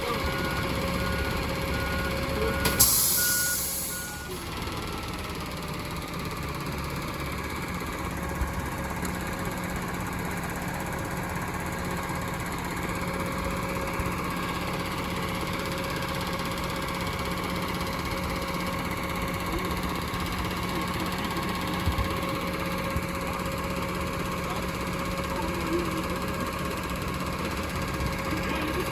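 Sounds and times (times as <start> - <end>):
garbage truck engine running: 0.0 - 28.9.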